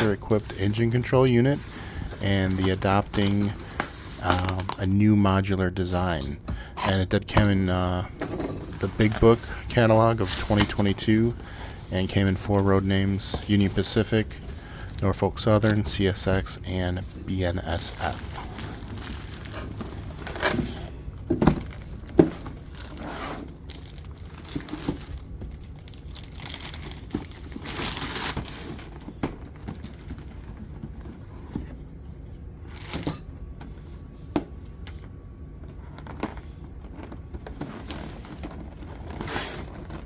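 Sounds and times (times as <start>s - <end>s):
packaging rustling and crinkling: 0.0s - 5.0s, 8.6s - 31.7s, 35.9s - 40.0s.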